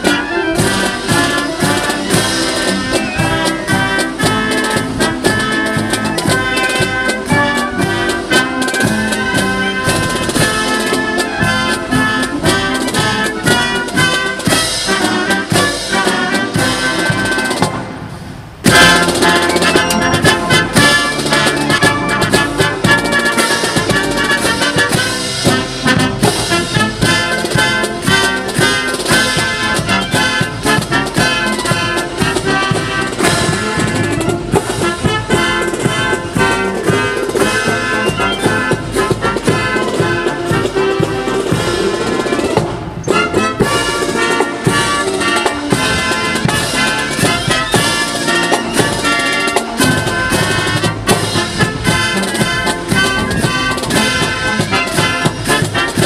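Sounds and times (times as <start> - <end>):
band playing brass and drums: 0.0 - 56.0.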